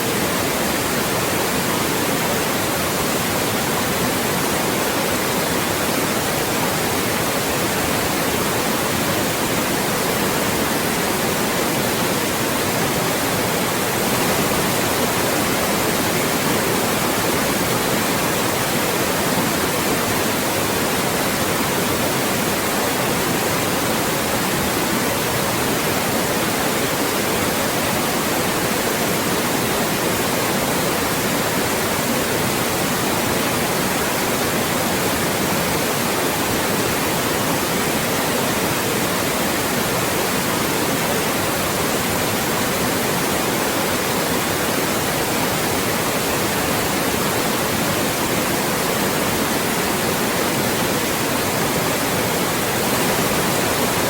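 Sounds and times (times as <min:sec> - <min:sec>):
loud white noise hiss: 0:00.0 - 0:54.0.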